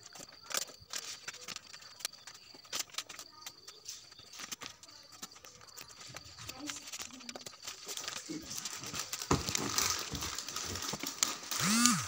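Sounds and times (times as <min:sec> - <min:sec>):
cellophane crinkling: 0:00.0 - 0:11.9.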